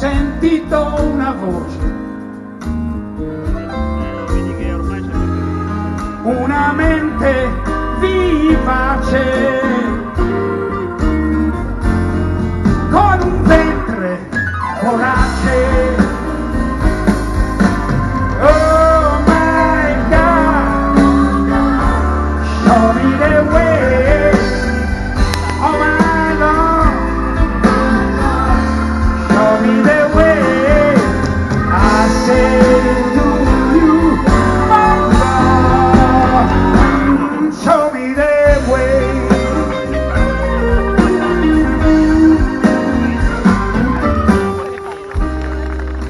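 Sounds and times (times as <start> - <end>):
bass and drum groove: 0.0 - 14.0, 15.0 - 46.0
bending lead melody: 0.0 - 46.0
live blues band: 0.0 - 46.0.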